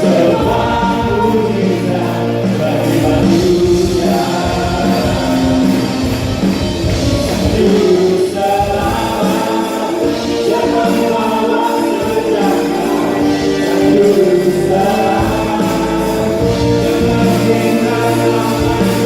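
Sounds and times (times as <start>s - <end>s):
band accompaniment: 0.0s - 19.0s
choir singing in unison: 0.0s - 19.0s.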